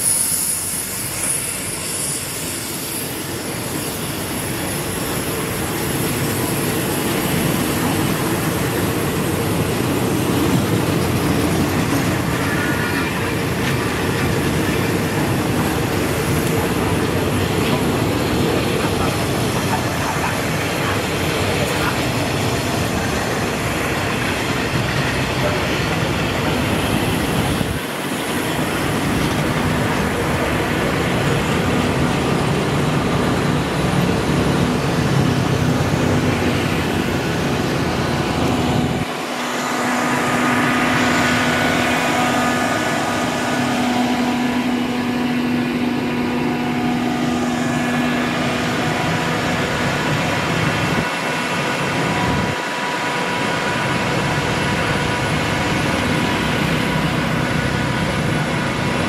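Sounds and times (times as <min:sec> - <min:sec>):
train wheels clattering on rail: 0:00.0 - 0:59.0.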